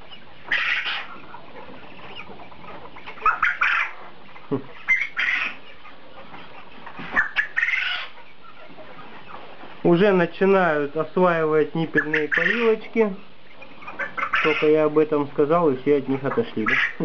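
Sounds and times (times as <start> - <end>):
quail calling: 0.0 - 9.9, 11.7 - 15.0, 16.0 - 17.0.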